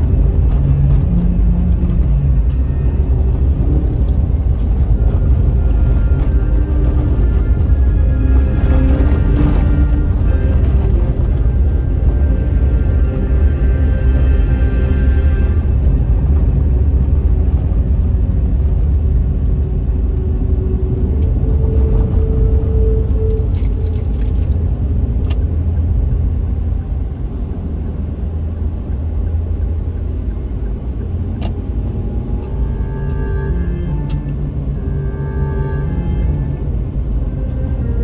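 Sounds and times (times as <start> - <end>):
car cabin road and engine rumble: 0.0 - 38.0
faint music: 0.0 - 38.0.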